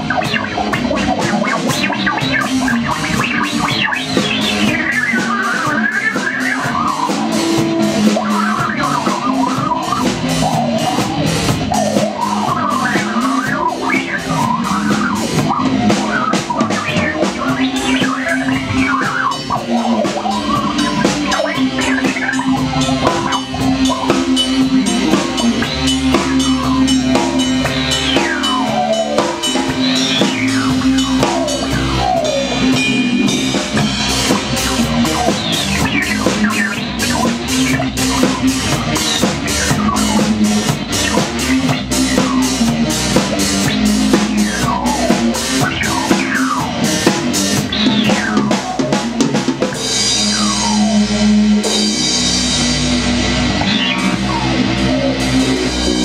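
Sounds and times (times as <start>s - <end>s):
drum kit beat: 0.0s - 56.0s.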